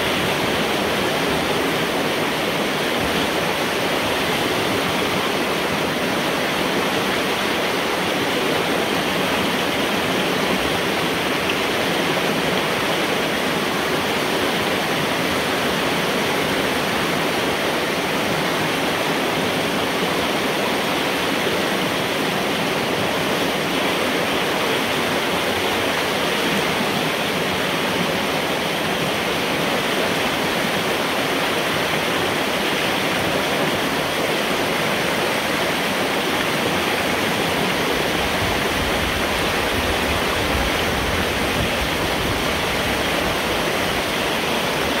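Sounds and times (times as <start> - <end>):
floodwater rushing through pipe: 0.0 - 45.0.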